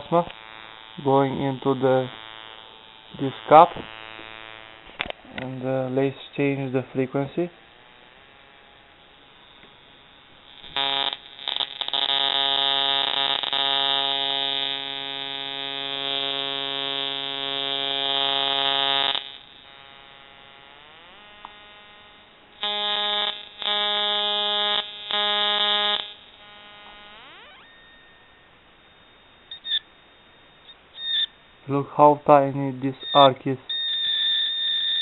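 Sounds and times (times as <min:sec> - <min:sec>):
gliding buzz pitch: 0:00.0 - 0:31.7, 0:32.7 - 0:35.0
higher-pitched buzz: 0:00.0 - 0:35.0
ignition coil arc buzzing: 0:00.0 - 0:35.0.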